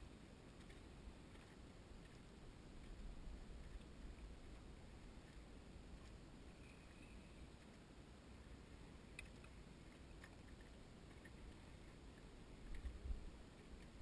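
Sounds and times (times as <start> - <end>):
low rumble of wind: 0.0 - 14.0.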